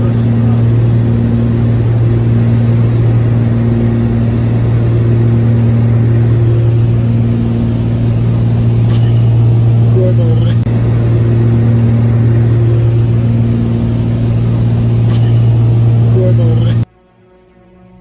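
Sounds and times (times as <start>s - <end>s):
propeller engine droning: 0.0s - 18.0s.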